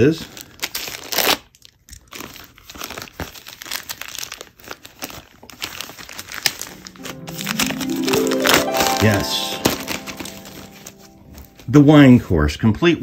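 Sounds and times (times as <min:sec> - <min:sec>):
plastic envelope crinkling: 0:00.3 - 0:11.6.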